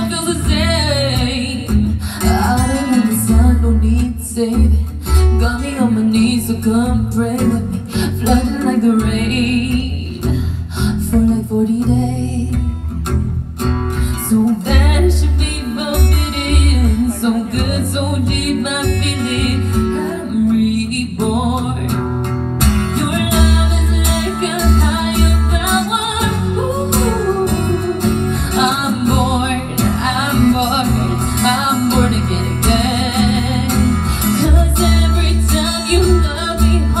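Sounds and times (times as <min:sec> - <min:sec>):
woman singing into microphone: 0:00.0 - 0:13.0, 0:14.0 - 0:22.1, 0:22.8 - 0:37.0
guitar accompaniment: 0:00.0 - 0:37.0.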